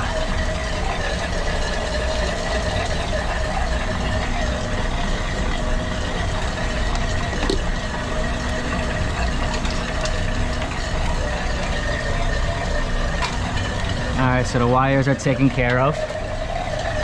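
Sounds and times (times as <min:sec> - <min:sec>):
refrigeration machinery humming: 0:00.0 - 0:17.0.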